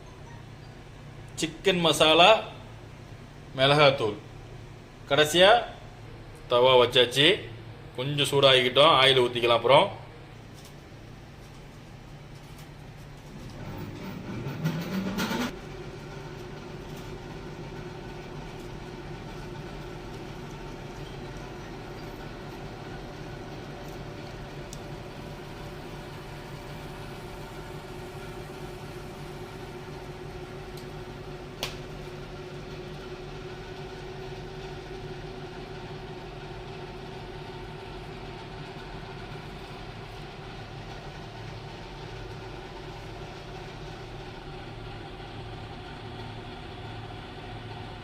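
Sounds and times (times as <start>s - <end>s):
stove humming: 0.0s - 48.0s.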